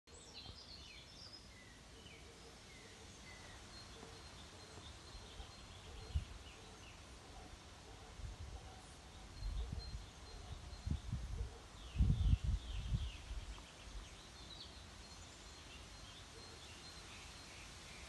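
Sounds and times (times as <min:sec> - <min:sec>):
faint birdsong: 0:00.1 - 0:18.0.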